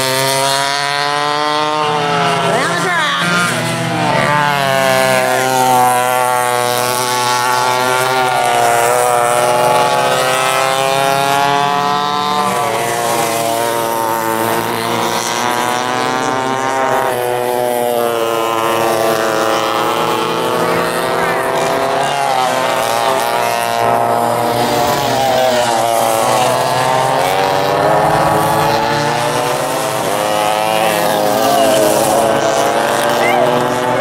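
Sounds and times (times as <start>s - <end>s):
kart engines revving: 0.0s - 34.0s.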